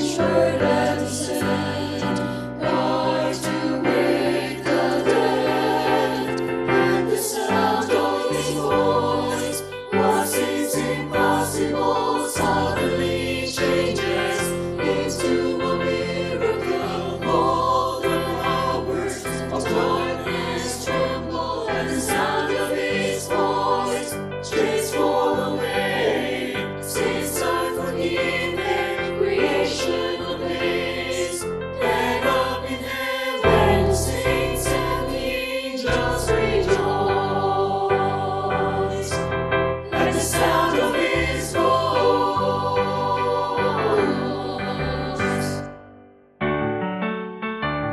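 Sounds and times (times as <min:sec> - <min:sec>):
choir singing worship song: 0:00.0 - 0:45.8.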